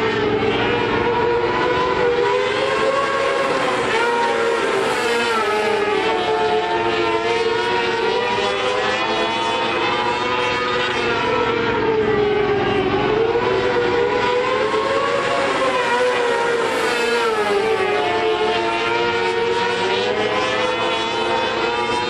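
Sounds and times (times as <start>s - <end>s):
high-revving engine at speed: 0.0s - 22.0s.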